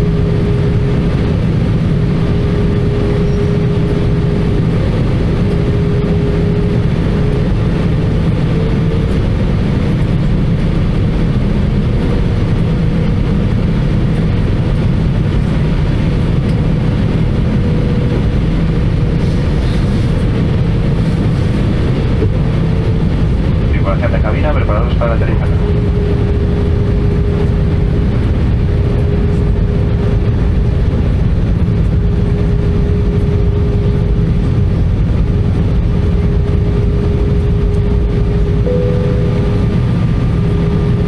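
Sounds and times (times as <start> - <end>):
airflow over fuselage: 0.0 - 41.0
faint steady whine: 0.0 - 41.0
jet engine roar: 0.0 - 41.0.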